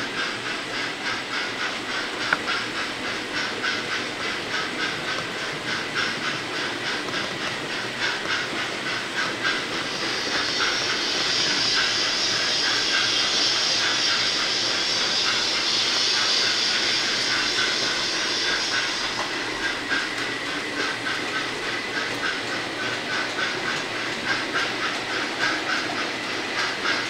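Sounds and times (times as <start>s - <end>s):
model locomotive hiss: 0.0s - 27.0s
model train wheels clicking: 0.0s - 27.0s.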